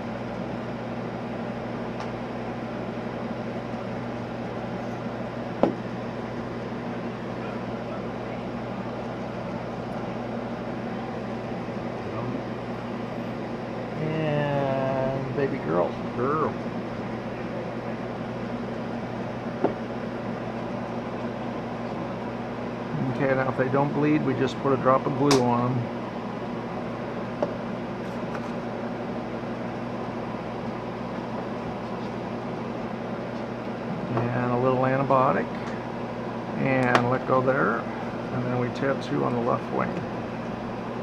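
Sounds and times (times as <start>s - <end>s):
mechanical hum: 0.0s - 41.0s.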